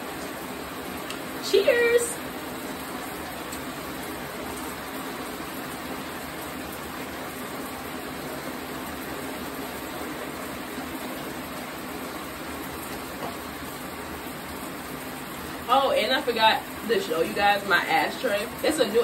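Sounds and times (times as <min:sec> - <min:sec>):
shower water running: 0:00.0 - 0:19.0.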